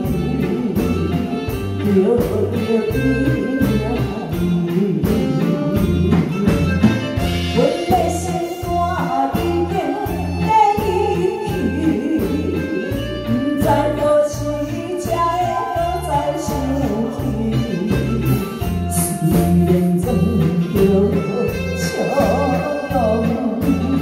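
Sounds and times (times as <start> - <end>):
live band accompaniment: 0.0 - 24.0
woman singing a ballad: 0.0 - 24.0.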